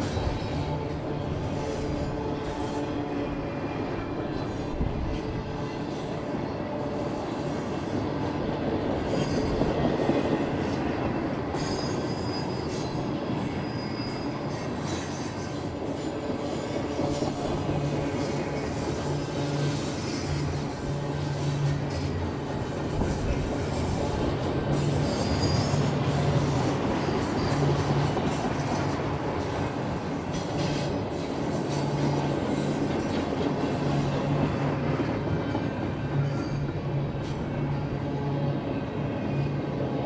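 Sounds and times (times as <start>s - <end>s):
steel wheels rumbling on rail: 0.0s - 40.0s.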